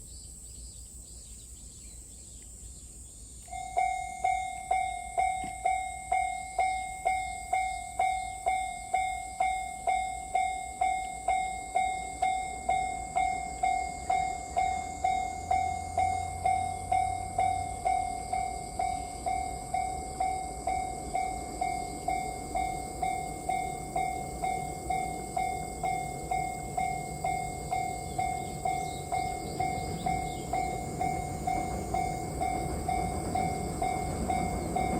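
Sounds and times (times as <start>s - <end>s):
level crossing warning bell: 3.4s - 34.9s.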